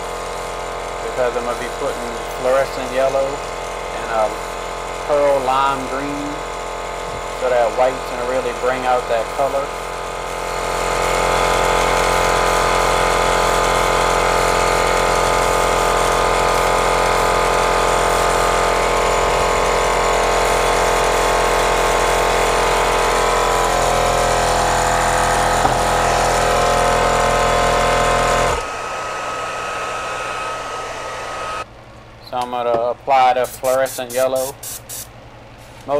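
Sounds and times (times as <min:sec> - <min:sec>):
airbrush compressor running: 0:00.0 - 0:31.7, 0:33.2 - 0:35.9
airbrush spraying paint: 0:00.0 - 0:31.7, 0:33.2 - 0:35.9
hair dryer blowing: 0:00.0 - 0:31.7.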